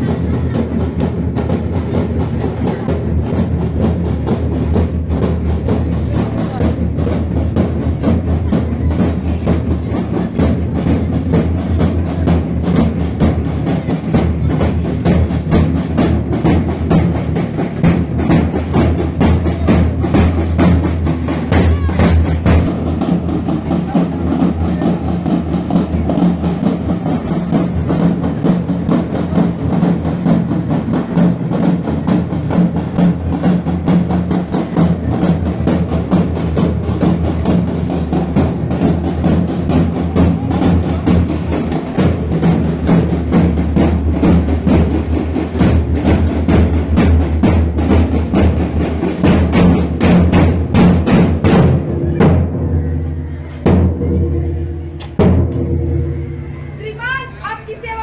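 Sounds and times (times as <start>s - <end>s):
deep drum: 0.0s - 56.7s
fast steady drumming: 0.0s - 58.0s.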